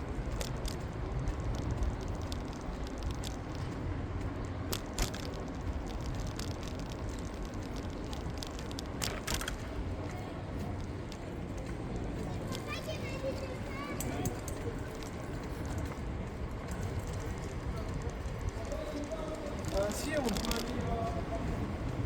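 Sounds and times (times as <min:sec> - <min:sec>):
bicycle clicks and rattles: 0:00.0 - 0:22.0
bicycle tyres rumbling: 0:00.0 - 0:22.0.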